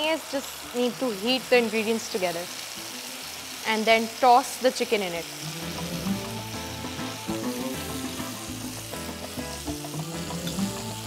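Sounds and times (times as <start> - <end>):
background music: 0.0 - 11.0
sauce sizzling in a frying pan: 0.0 - 11.0.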